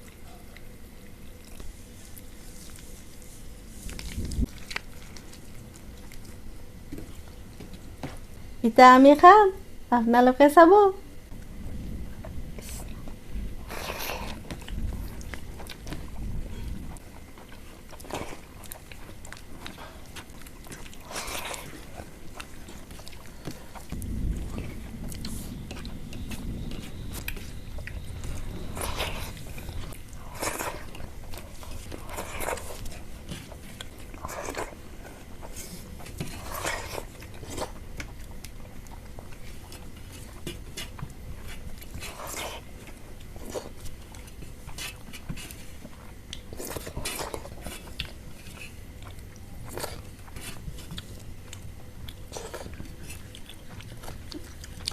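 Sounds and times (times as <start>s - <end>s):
person chewing food: 0.0s - 8.4s, 11.3s - 54.9s.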